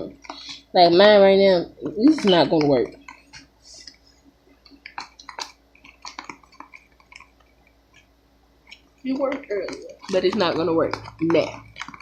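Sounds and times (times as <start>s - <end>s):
pencil clicking on container: 0.0s - 12.0s
wet squishing of stirred mixture: 0.0s - 12.0s.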